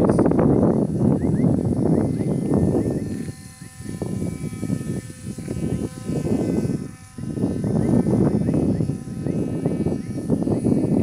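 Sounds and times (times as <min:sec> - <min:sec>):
faint electric motor whine: 0:00.0 - 0:11.0
wind rumbling on microphone: 0:00.0 - 0:11.0.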